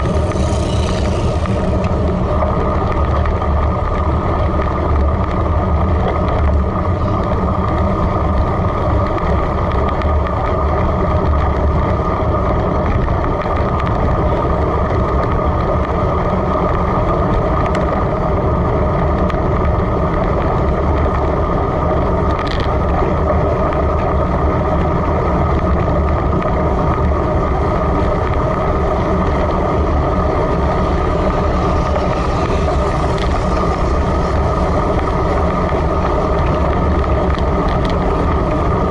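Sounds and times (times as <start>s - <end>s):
road rumble: 0.0s - 38.9s
tyre noise on wet road: 0.0s - 38.9s
wind rush on microphone: 0.0s - 38.9s.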